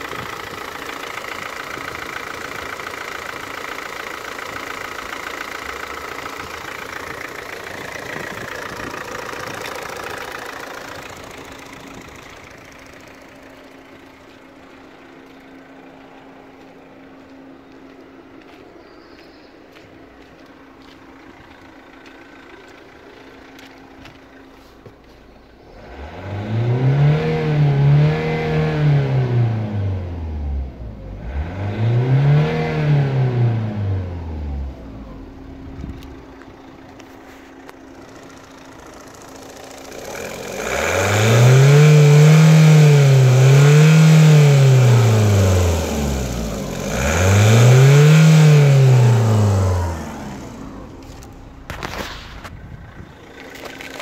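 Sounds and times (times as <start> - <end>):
diesel engine idling and revving: 0.0 - 54.0.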